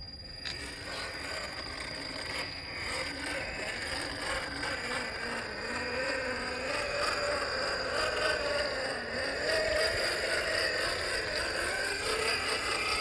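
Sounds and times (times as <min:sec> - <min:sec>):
electric motor whining: 0:00.4 - 0:13.0.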